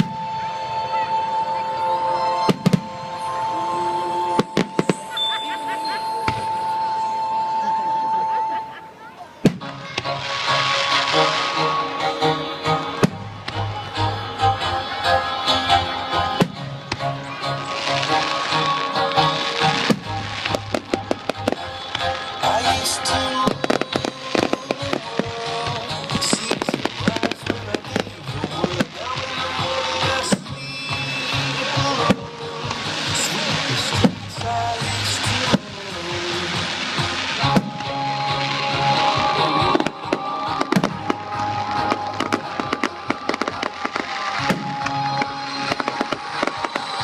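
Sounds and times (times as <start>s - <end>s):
fireworks bangs and crackles: 0.0s - 1.6s, 2.2s - 7.4s, 9.4s - 47.0s
music: 0.0s - 47.0s.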